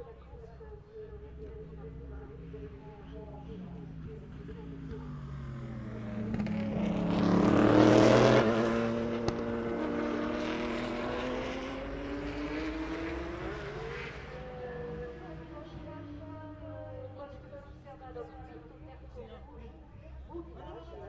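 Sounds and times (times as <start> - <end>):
race car engine passing: 1.3 - 18.8.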